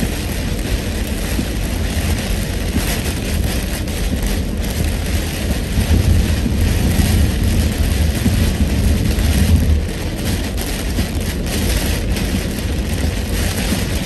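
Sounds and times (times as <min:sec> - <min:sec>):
rain hitting car: 0:00.0 - 0:14.0
road and tyre rumble: 0:00.0 - 0:14.0.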